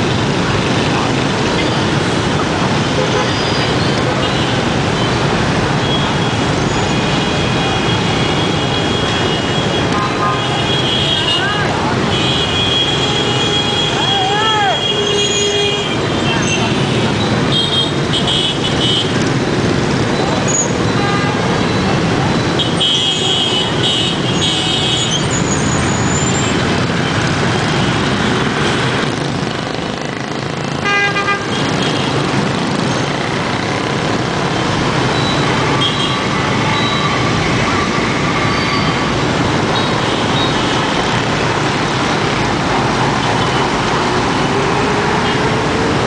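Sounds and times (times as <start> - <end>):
city traffic engines: 0.0 - 46.0.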